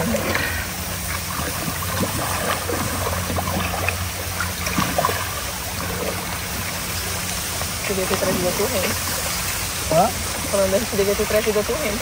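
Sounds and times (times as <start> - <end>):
heavy rain on water and boat: 0.0 - 12.0
steady low hum: 0.0 - 12.0.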